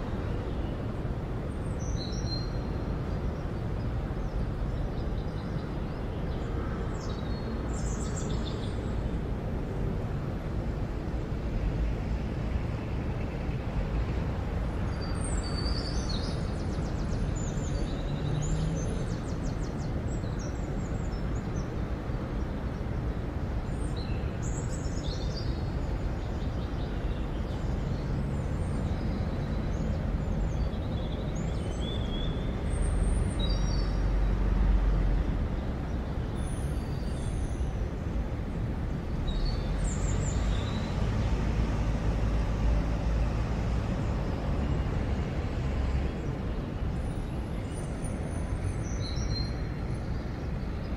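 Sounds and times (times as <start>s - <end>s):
low rumble of traffic: 0.0s - 50.9s.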